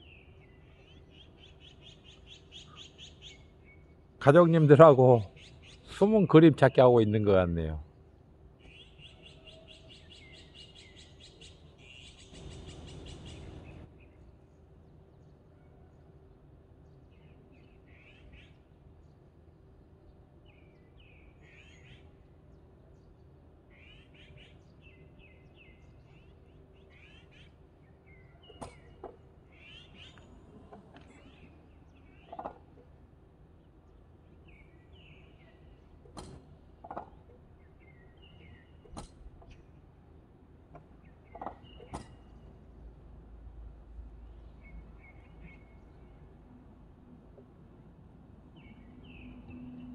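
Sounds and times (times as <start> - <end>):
songbirds calling: 0.0 - 49.9.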